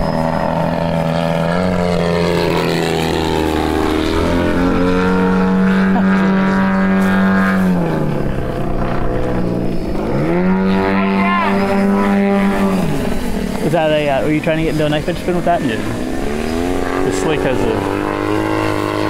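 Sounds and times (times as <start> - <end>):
model airplane engine revving: 0.0 - 19.0.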